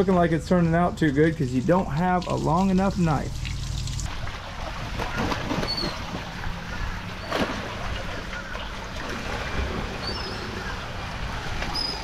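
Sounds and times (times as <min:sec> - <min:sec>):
steady low hum: 0:00.0 - 0:12.0
water running and splashing: 0:00.6 - 0:12.0.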